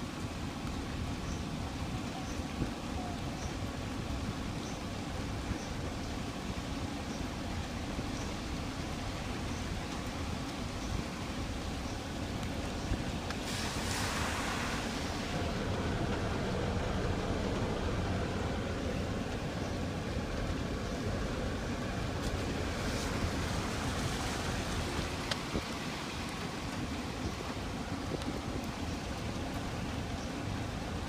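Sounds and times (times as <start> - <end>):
rain: 0.0 - 31.0
rushing floodwater: 0.0 - 31.0.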